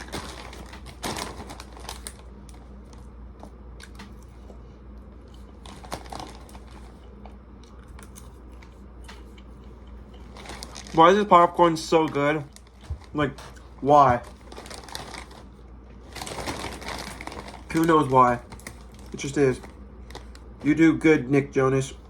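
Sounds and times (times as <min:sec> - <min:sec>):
person chewing popcorn: 0:00.0 - 0:20.6.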